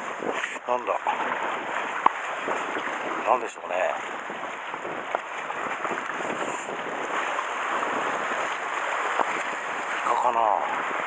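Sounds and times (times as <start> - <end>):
sea water washing against rocks: 0.0 - 11.0
wind on microphone: 0.0 - 11.0.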